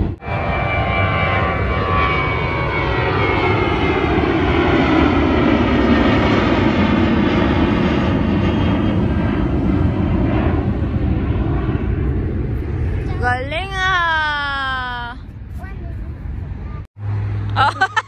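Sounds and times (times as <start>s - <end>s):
jet engine rumble: 0.0s - 17.4s
high engine whine: 0.0s - 18.0s.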